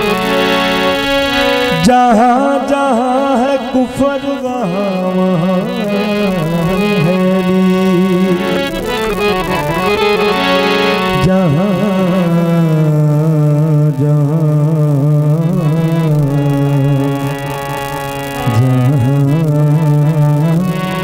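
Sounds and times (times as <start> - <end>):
instrumental accompaniment: 0.0 - 21.0
man singing wordless vocal line: 1.6 - 9.6, 11.0 - 21.0.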